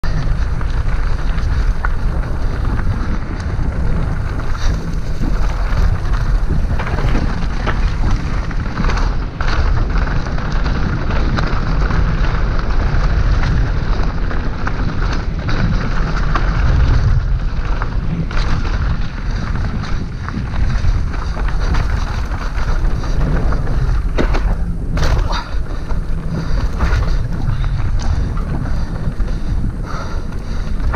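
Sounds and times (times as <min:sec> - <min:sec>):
bike clacking and rattling: 0:00.0 - 0:30.9
bike tyres rolling on dirt: 0:00.0 - 0:30.9
wind buffeting microphone: 0:00.0 - 0:30.9.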